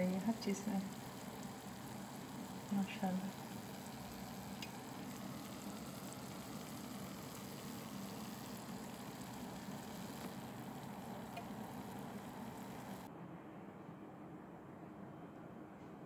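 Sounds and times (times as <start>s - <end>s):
food sizzling in oil: 0.0s - 13.1s
low steady hum: 0.0s - 13.1s
oil popping: 0.0s - 13.1s.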